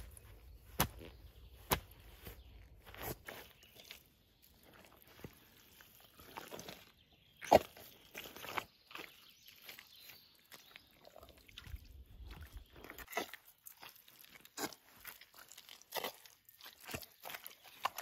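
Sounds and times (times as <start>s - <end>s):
sneakers squelching in mud: 0.0s - 18.0s.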